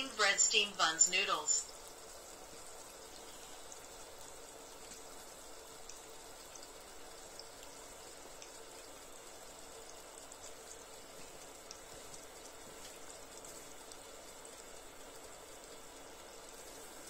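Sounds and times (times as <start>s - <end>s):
buns deep-frying in oil: 0.0s - 17.0s.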